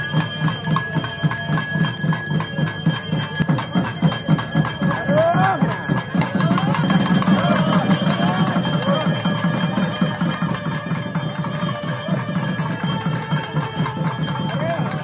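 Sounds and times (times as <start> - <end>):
music: 0.0 - 15.0
temple bells ringing: 0.0 - 15.0.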